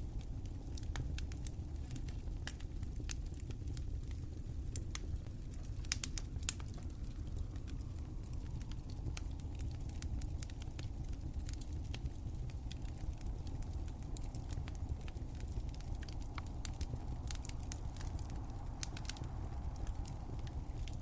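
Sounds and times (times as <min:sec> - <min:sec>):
fire crackling: 0:00.0 - 0:21.0.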